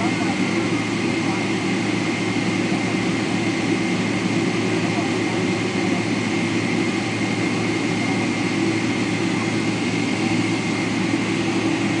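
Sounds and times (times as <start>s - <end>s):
jet engines heard from cabin: 0.0s - 12.0s.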